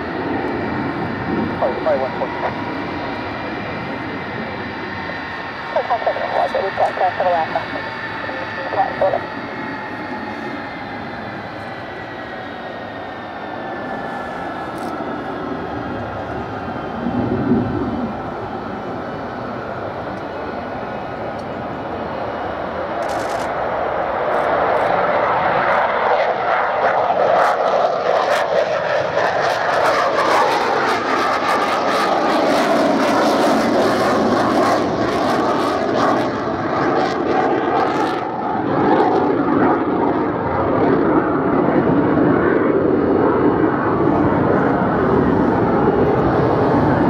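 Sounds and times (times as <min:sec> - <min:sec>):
jet engines running loud: 0:00.0 - 0:47.0.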